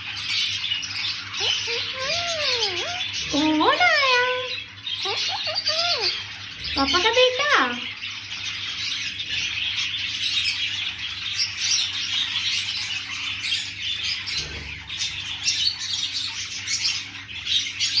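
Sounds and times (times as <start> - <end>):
parrot chirping and squawking: 0.0 - 18.0.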